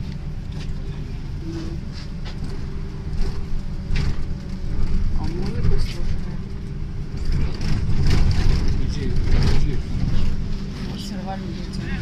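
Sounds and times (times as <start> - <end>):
trolleybus cabin rumble: 0.0 - 12.0.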